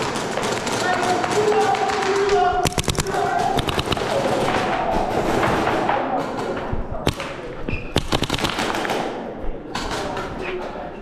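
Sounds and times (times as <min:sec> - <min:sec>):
airsoft guns firing: 0:00.0 - 0:09.2.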